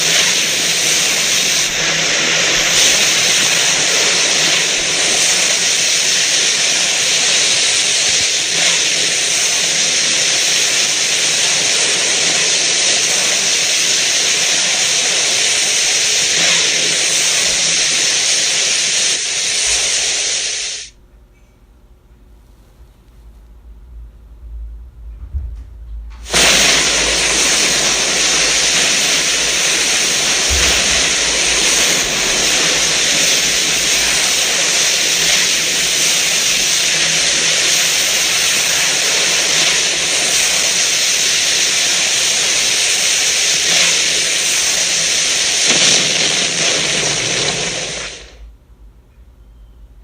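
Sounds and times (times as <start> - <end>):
loud rushing hiss: 0.0 - 21.0, 26.2 - 48.5.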